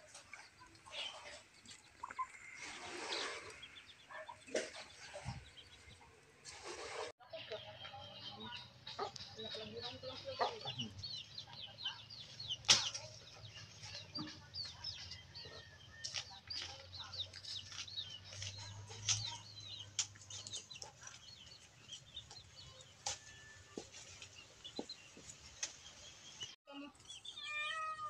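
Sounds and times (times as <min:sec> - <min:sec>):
birds chirping: 0:00.0 - 0:06.5, 0:07.2 - 0:28.0.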